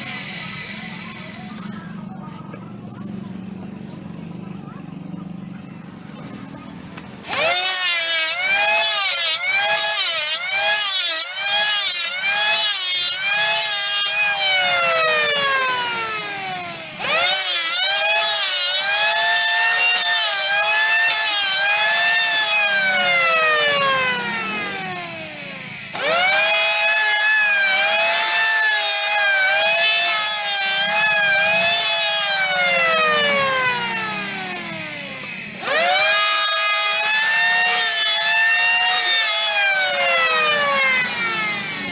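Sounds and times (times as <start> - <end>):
electric hand planer whining: 0.0 - 2.0, 7.2 - 41.9.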